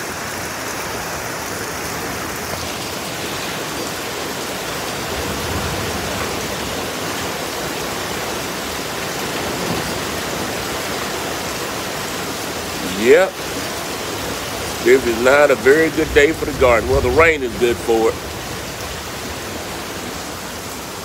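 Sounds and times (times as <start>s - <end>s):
heavy rain and hail: 0.0s - 21.0s.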